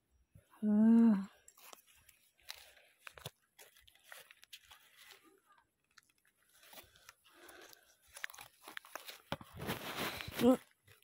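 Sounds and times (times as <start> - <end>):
faint clicks and rustles: 1.2 - 11.0.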